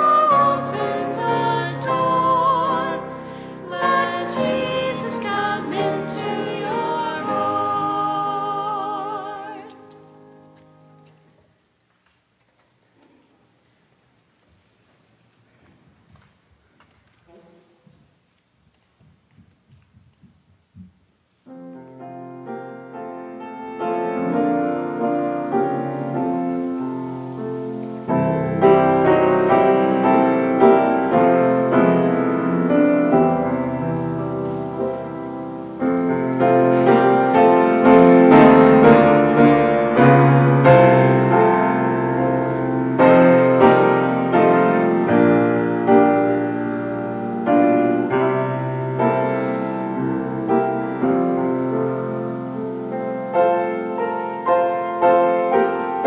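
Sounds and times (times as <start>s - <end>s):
slow piano piece: 0.0s - 11.8s, 20.7s - 56.0s.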